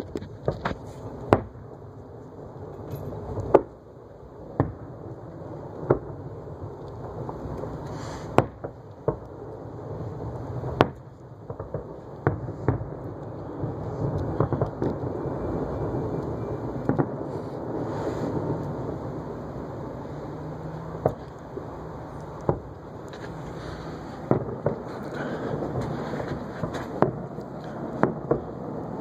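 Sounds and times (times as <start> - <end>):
fireworks bangs: 0.0 - 1.7, 2.7 - 3.8, 4.5 - 29.0
steady background noise: 0.0 - 29.0.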